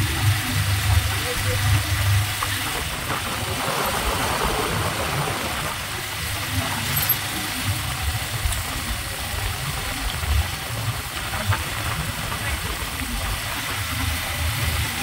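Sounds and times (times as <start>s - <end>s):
motorcycle running: 0.0s - 15.0s
wind rushing over microphone: 0.0s - 15.0s.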